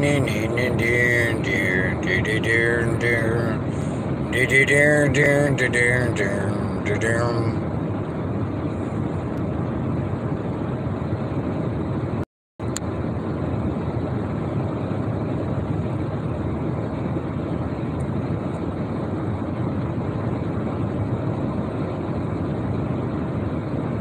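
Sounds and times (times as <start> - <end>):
road and engine noise inside vehicle: 0.0 - 24.0.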